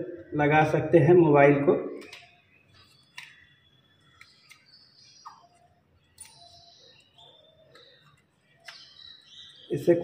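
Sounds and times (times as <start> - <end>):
faint bird chirps: 1.8 - 10.0.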